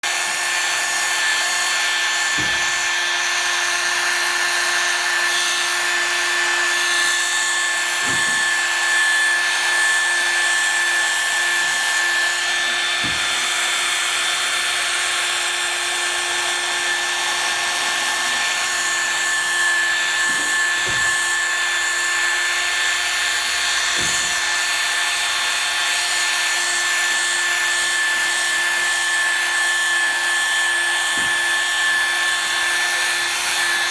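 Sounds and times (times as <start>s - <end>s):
polishing machine motor whine: 0.0s - 33.9s.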